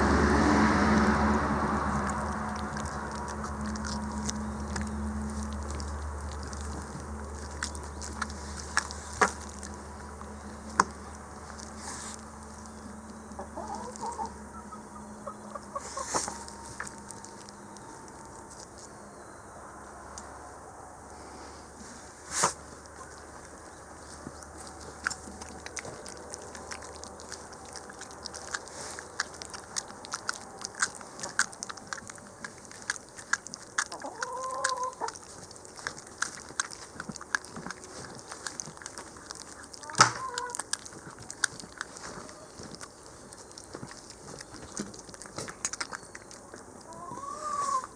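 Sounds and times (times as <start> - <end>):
dog biting and chewing meat: 0.0 - 14.4, 15.3 - 19.1, 22.5 - 47.9.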